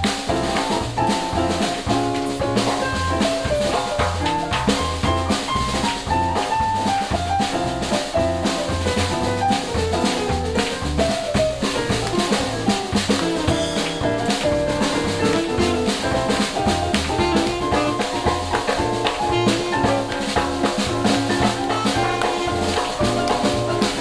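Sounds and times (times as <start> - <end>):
drum kit swinging beat: 0.0 - 24.0
jazz band playing: 0.0 - 24.0.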